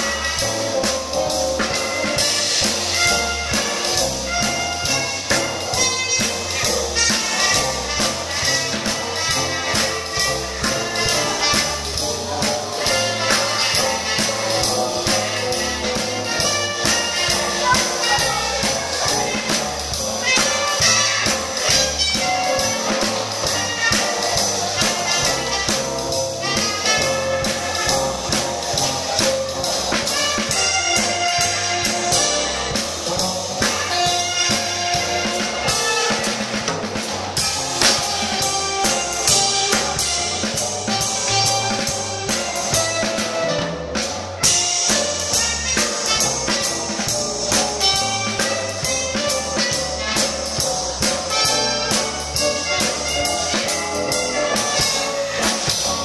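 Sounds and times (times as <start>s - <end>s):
jazz band playing dance music: 0.0s - 56.0s.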